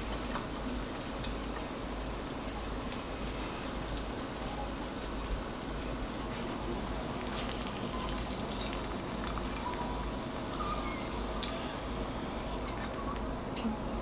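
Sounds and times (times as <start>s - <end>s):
food sizzling in a pan: 0.0s - 13.5s.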